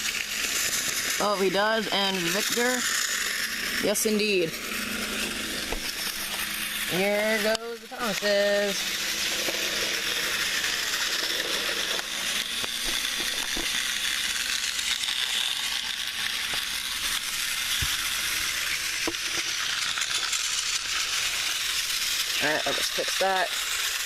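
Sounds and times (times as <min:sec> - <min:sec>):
toy train clicks: 0:00.0 - 0:24.0
toy trains whirring rattle: 0:00.0 - 0:24.0.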